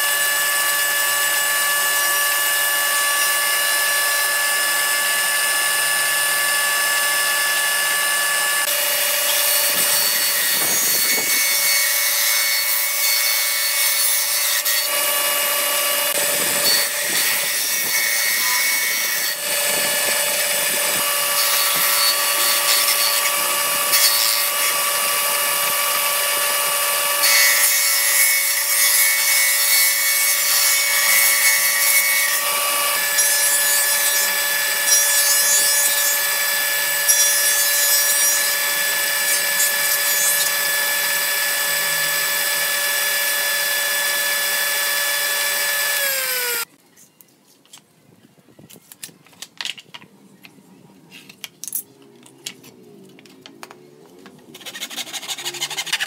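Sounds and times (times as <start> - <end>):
table saw cutting wood: 0.0 - 46.7, 54.5 - 56.0.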